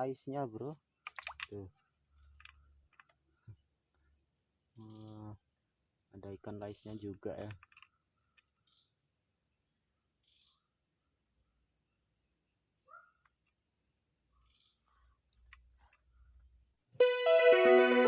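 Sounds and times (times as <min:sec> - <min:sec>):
faint bird chirps: 0:00.0 - 0:16.9
insects chirring: 0:00.0 - 0:16.9.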